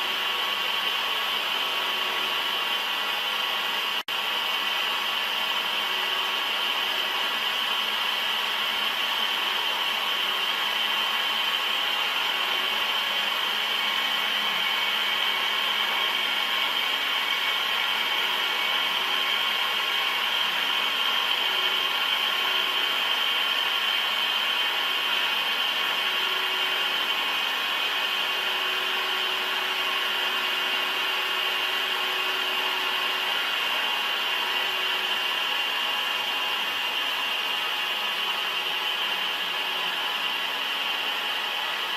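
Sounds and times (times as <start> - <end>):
metal lathe machining: 0.0 - 41.9.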